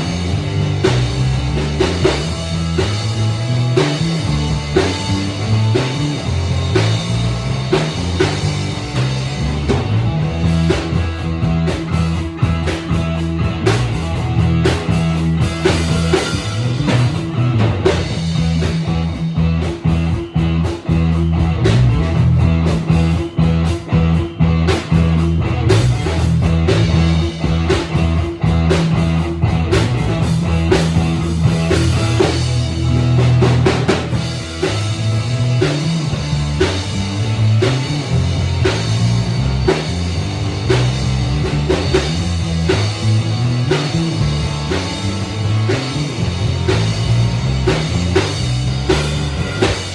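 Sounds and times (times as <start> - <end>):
bass guitar: 0.0 - 49.9
drum kit: 0.0 - 49.9
electric guitar: 0.0 - 49.9.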